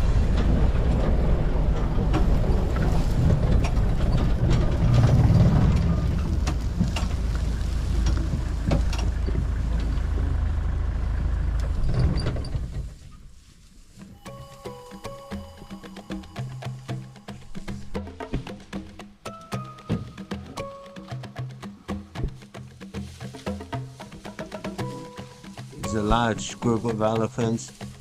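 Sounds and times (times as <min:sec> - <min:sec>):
rattles and knocks: 0:00.0 - 0:13.5, 0:15.0 - 0:28.0
vehicle engine and road rumble: 0:00.0 - 0:28.0.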